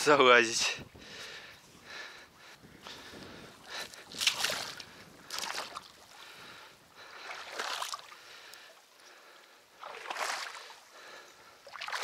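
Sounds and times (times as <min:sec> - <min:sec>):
feet wading through water: 0:01.5 - 0:12.0.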